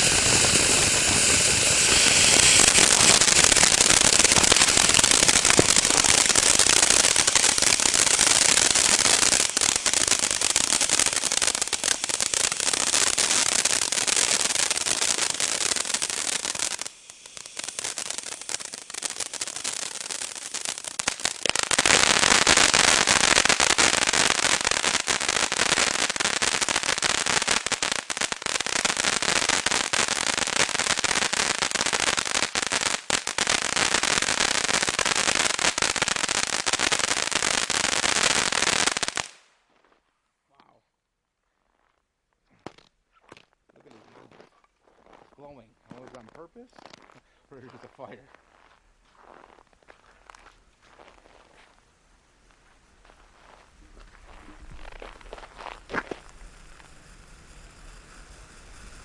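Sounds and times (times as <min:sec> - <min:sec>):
firework fountain crackling hiss: 0:00.0 - 0:39.5, 0:45.2 - 0:59.0.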